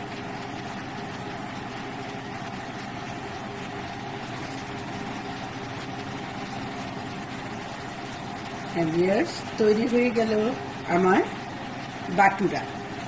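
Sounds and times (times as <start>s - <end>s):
bread sizzling in hot oil: 0.0s - 13.0s
steady low hum: 0.0s - 13.0s.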